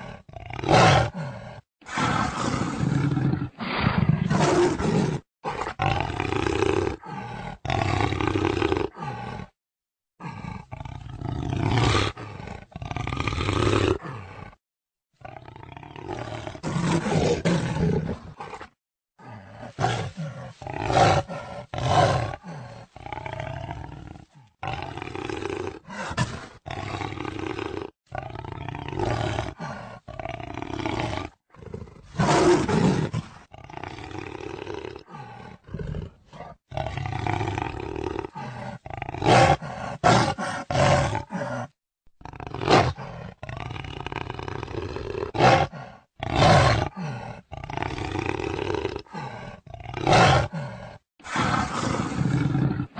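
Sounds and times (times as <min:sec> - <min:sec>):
jaguar roaring and growling: 0:00.0 - 0:09.6, 0:10.2 - 0:14.6, 0:15.2 - 0:52.9.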